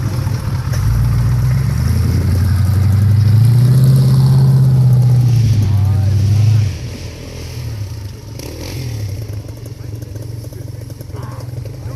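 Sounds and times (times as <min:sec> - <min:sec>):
diesel engine pulling under load: 0:00.0 - 0:11.9.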